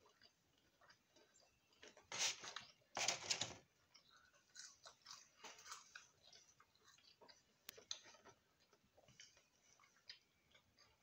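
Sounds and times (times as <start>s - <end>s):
chewing and crunching: 0.0s - 11.0s.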